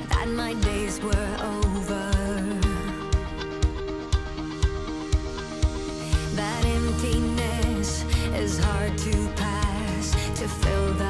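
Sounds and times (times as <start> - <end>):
pop music with drum beat: 0.0 - 11.0.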